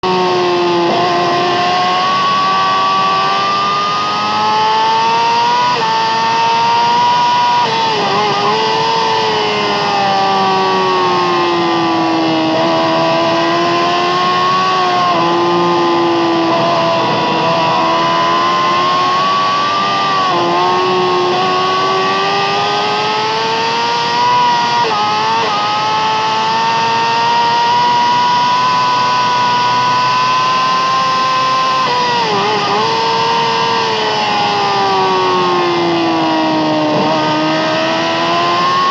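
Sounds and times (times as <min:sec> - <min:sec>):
sportbike engine revving high: 0:00.0 - 0:38.9.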